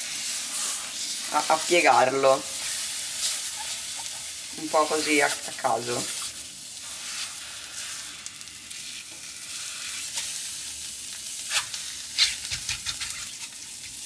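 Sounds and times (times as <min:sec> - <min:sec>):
egg whites sizzling in a pan: 0:00.0 - 0:14.0.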